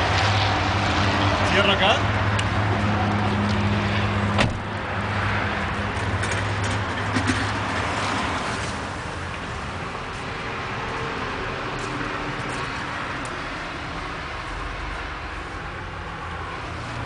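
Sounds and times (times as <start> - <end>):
outdoor background noise: 0.0 - 17.0
vehicle engine humming: 0.0 - 17.0.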